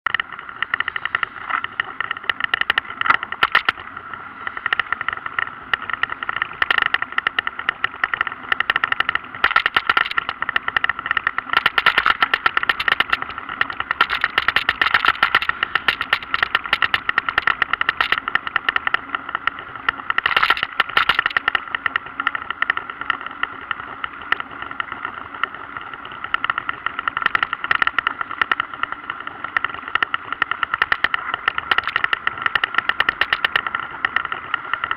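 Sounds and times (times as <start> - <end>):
camera rattling from bike vibration: 0.0 - 34.9.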